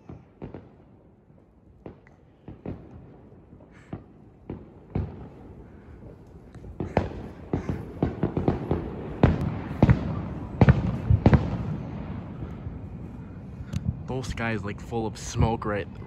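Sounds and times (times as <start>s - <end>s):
fireworks bangs: 0.0s - 0.9s, 1.8s - 15.8s.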